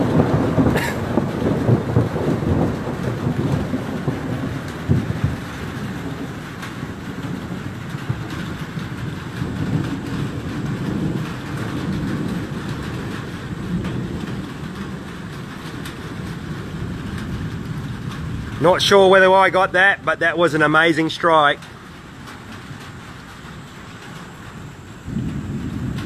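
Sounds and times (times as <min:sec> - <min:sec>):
thunder rolling and rumbling: 0:00.0 - 0:26.0
steady hiss: 0:00.1 - 0:26.0.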